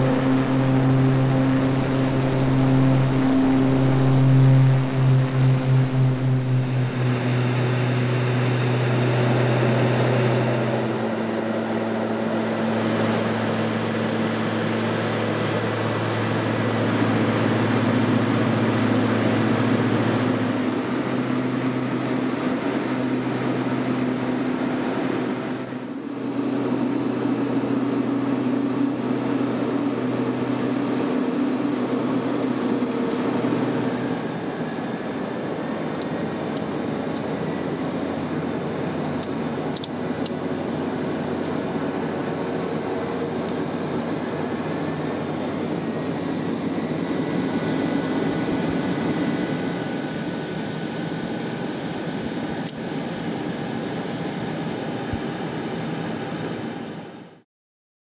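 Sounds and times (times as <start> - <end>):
propeller aircraft engines droning: 0.0 - 57.3.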